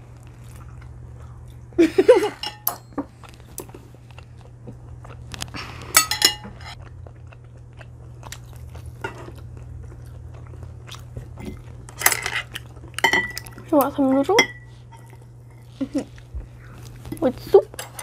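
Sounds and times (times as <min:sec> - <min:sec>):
chewing roasted chicken wings: 0:00.0 - 0:02.3, 0:03.0 - 0:06.0, 0:06.6 - 0:14.0, 0:14.6 - 0:17.8
low electrical hum: 0:00.0 - 0:18.0.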